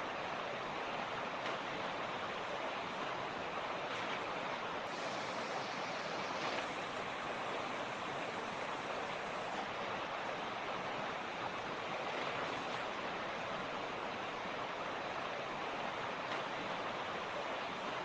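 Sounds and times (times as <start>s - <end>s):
creek rushing over rocks: 0.0s - 18.0s.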